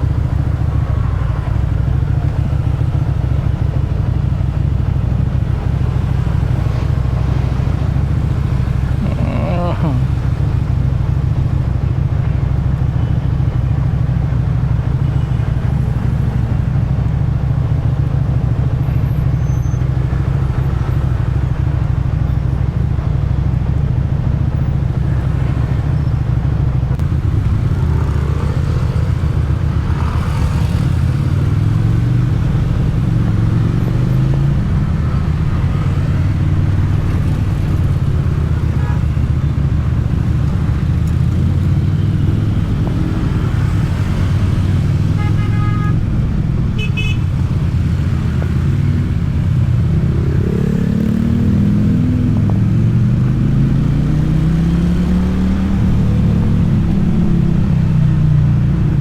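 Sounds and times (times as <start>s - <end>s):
motorcycle engine and exhaust: 0.0s - 59.0s.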